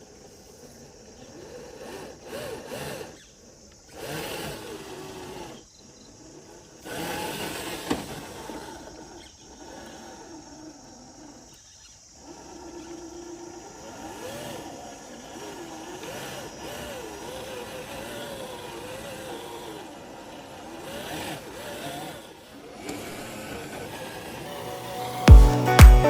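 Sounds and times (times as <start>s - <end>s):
electric motor and gears whining: 0.0s - 25.8s.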